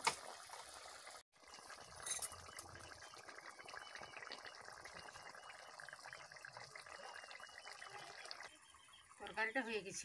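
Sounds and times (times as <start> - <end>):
curry bubbling and popping: 0.0 - 10.0.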